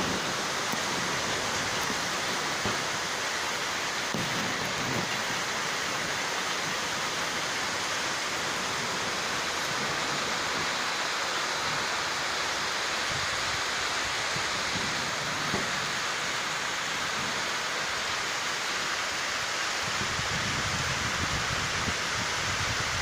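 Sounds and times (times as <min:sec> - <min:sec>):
heavy rain downpour: 0:00.0 - 0:23.0.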